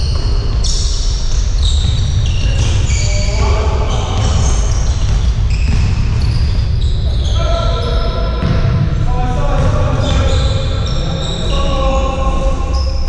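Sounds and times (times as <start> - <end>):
basketball shoes squeaking: 0.0 - 13.0.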